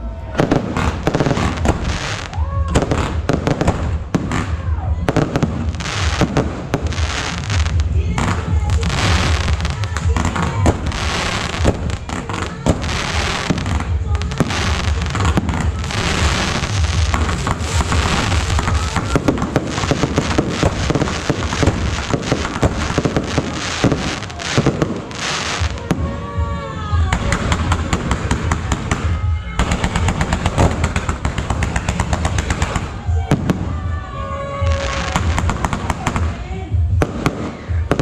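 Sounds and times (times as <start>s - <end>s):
fireworks crackling bangs: 0.4s - 38.0s.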